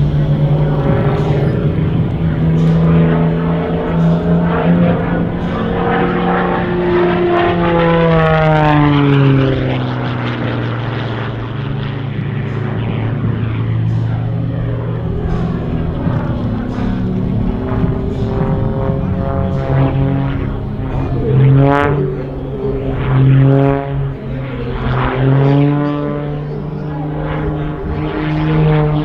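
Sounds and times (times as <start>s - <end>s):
propeller plane engine hum: 0.0s - 29.0s.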